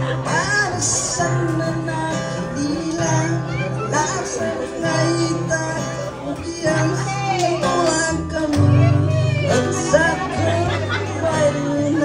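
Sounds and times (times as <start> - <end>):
person singing: 0.0 - 12.0.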